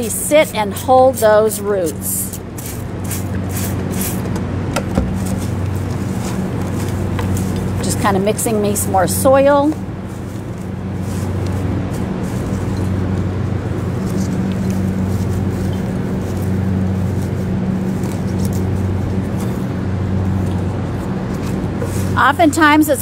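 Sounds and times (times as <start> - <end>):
hands rustling potting mix: 0.0 - 4.4, 5.1 - 23.0
low machine hum: 0.0 - 23.0.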